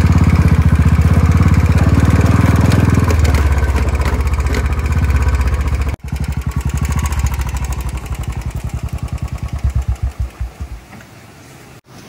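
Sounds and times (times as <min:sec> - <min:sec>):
motorcycle engine thumping: 0:00.0 - 0:11.1.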